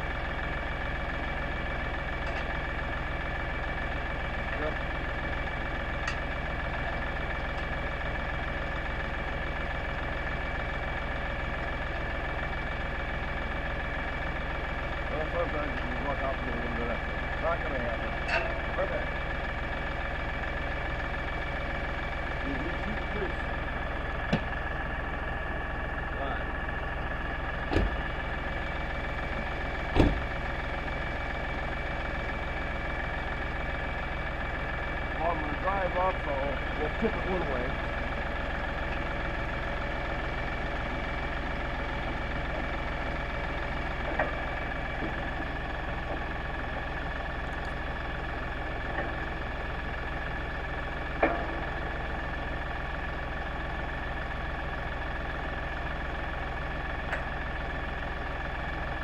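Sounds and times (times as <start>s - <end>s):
diesel tractor engine idling: 0.0s - 59.0s.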